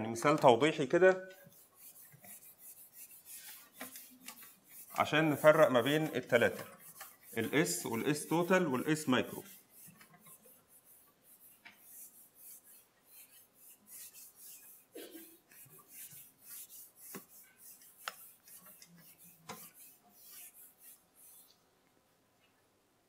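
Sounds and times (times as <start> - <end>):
eraser swishing on whiteboard: 1.4 - 21.6.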